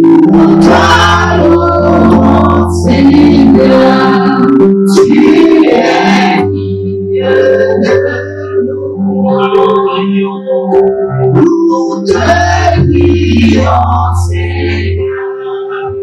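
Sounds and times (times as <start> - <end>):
keyboard accompaniment: 0.0 - 16.0
voices singing gospel: 0.0 - 16.0.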